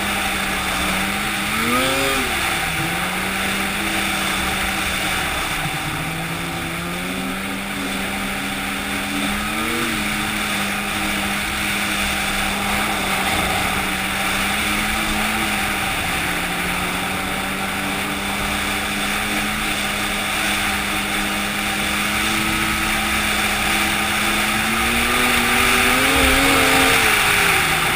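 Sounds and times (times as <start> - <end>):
engine running: 0.0 - 27.9.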